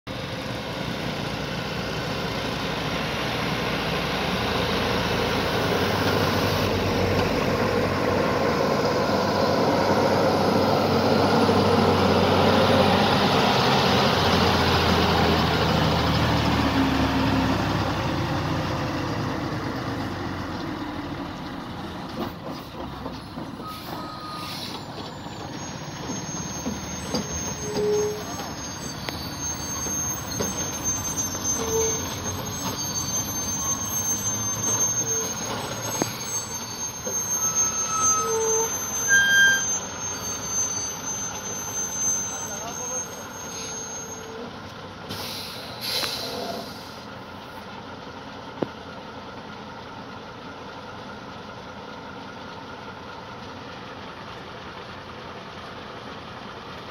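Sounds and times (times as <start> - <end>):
diesel trucks driving past: 0.1 - 56.9.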